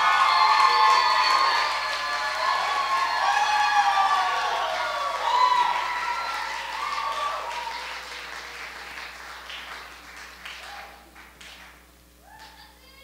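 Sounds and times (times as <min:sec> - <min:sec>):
audience cheering: 0:00.0 - 0:11.2
audience applauding: 0:00.0 - 0:11.8.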